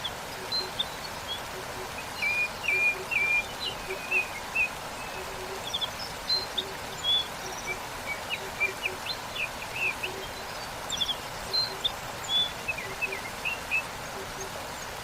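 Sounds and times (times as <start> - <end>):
small birds chirping: 0.0 - 15.0
waterfall rushing: 0.0 - 15.0.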